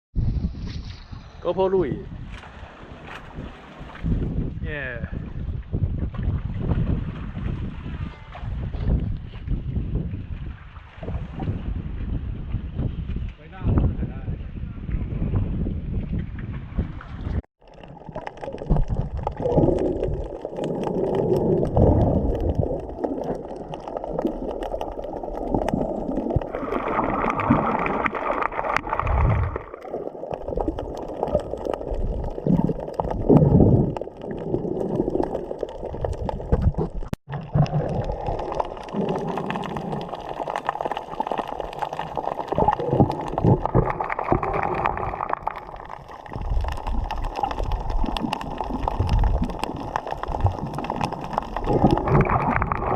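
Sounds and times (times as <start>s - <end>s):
water gurgling and sloshing: 0.2s - 13.4s, 14.8s - 52.9s.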